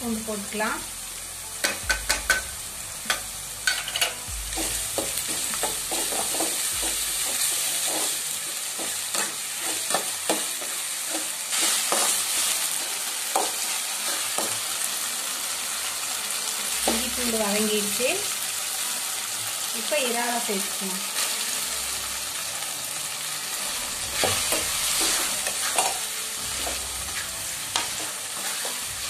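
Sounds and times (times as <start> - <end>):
onions sizzling in hot oil: 0.0 - 29.0.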